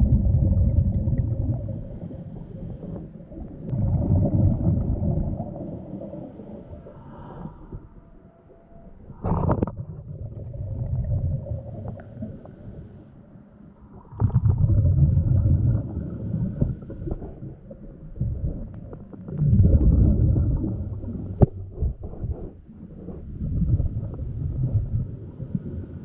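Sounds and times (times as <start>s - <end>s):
underwater rumbling and sloshing: 0.0s - 26.0s.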